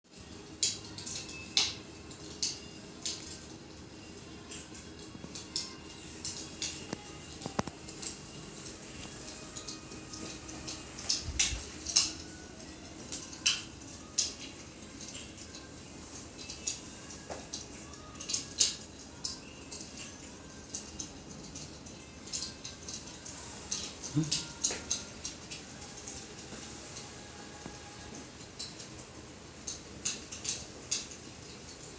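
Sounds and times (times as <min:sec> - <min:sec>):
fire crackling: 0:00.1 - 0:31.9.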